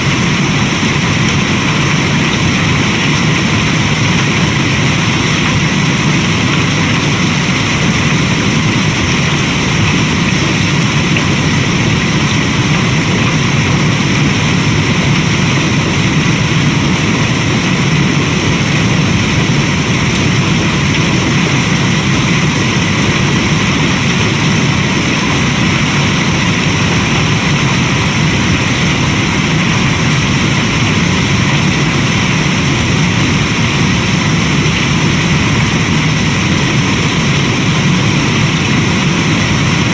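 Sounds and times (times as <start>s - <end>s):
low rumble: 0.0s - 39.9s
steady rain hiss: 0.0s - 39.9s.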